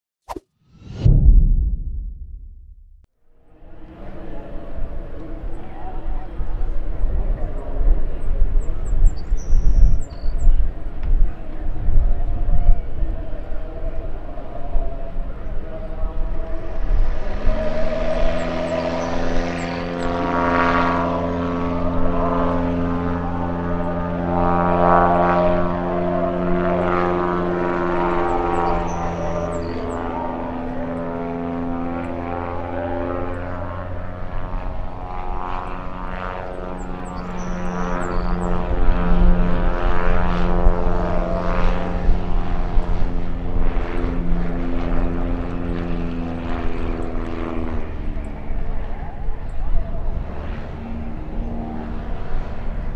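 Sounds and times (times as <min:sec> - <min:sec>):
light airplane engine droning: 0:03.4 - 0:52.9.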